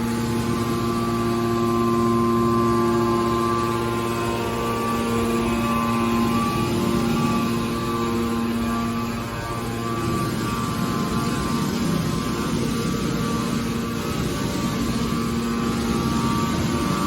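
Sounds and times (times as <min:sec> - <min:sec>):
mechanical drone with humming tones: 0:00.0 - 0:17.0.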